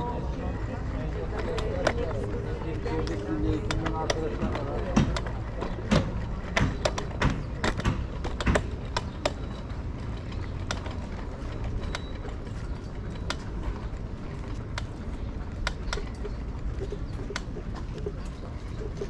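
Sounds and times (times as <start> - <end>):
low wheel rumble: 0.0 - 19.0
scooter rattling and knocking: 0.0 - 19.0.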